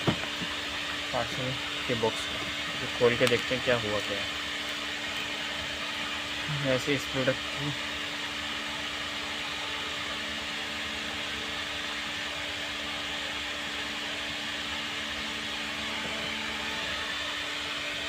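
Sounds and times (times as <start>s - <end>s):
machine hum with whirring hiss: 0.0s - 18.0s.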